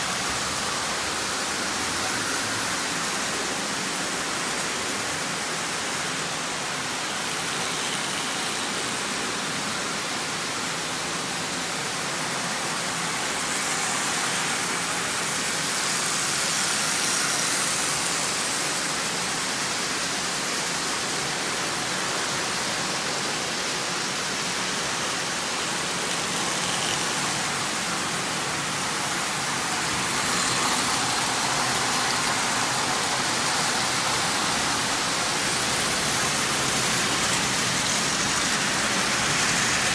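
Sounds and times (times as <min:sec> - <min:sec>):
toy trains rumbling on track: 0:00.0 - 0:39.9.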